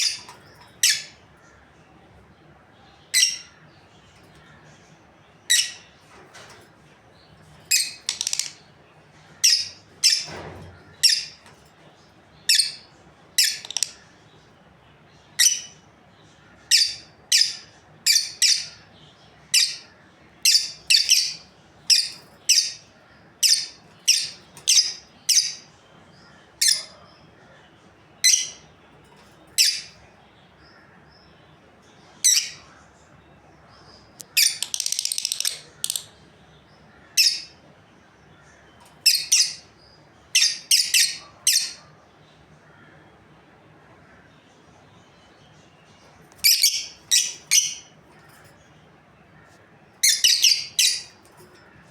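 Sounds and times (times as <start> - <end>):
birds chattering: 0.0 - 51.9
lovebirds chirping: 0.0 - 51.9.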